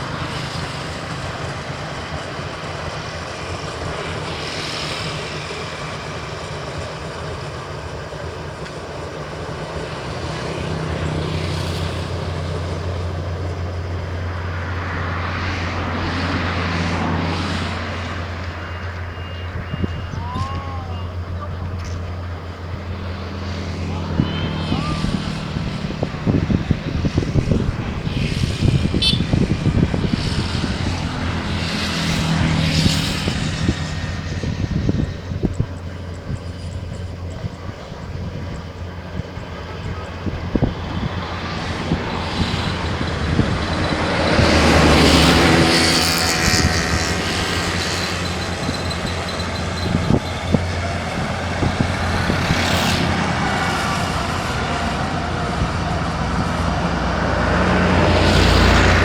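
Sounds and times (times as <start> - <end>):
combine harvester engine hum: 0.0 - 59.0.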